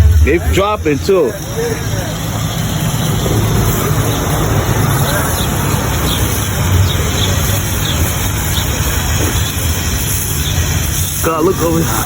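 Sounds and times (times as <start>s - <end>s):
small engine running: 0.0s - 12.0s
water spraying hiss: 0.0s - 12.0s.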